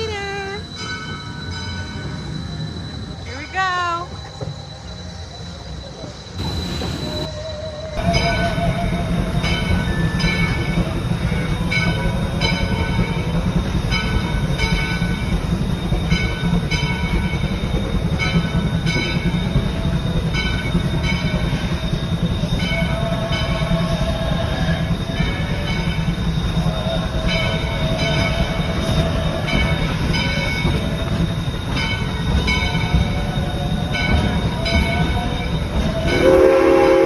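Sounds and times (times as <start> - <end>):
bell-like ringing tones: 0.0 - 37.0
train car rumbling on track: 0.0 - 37.0.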